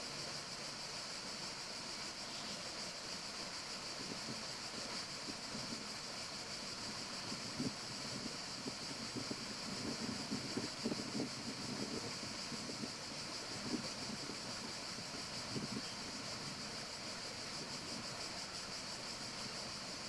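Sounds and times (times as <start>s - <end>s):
forest ambience hiss: 0.0s - 20.0s.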